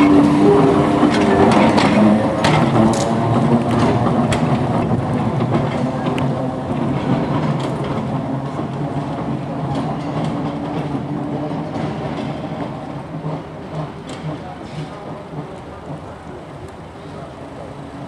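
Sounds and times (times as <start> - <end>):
electric tram humming: 0.0 - 18.0
wheels clicking on rail: 0.0 - 18.0.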